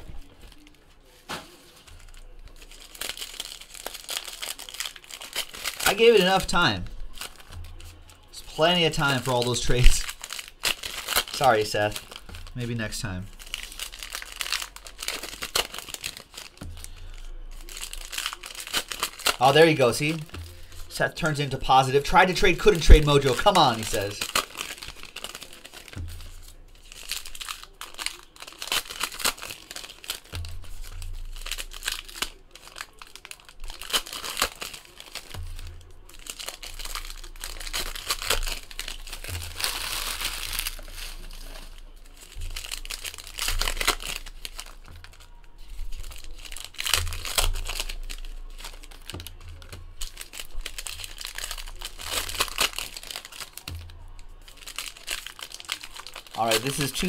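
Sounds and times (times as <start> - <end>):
card pack wrappers crinkling: 0.0 - 57.0.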